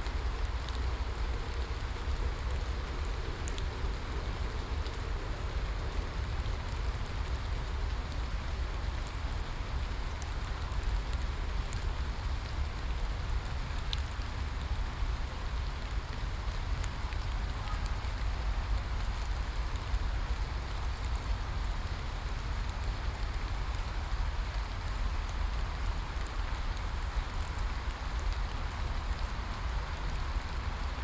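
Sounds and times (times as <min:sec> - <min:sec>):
steady rainfall: 0:00.0 - 0:31.0.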